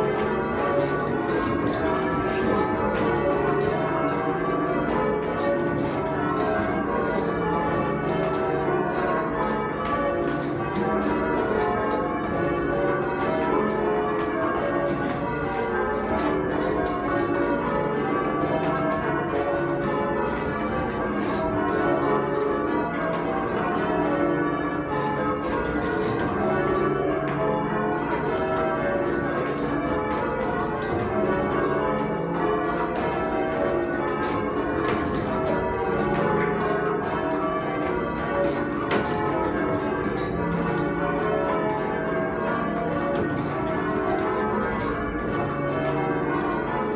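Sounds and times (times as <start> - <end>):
church bells change ringing: 0.0 - 46.9.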